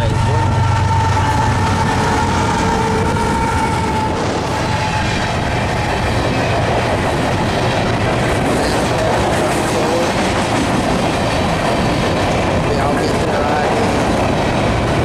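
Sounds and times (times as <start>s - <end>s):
steel train wheels on rails: 0.0s - 15.0s.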